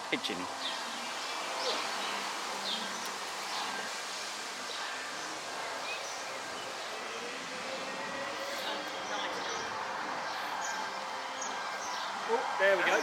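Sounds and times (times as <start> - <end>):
rustling foliage: 0.0 - 13.0.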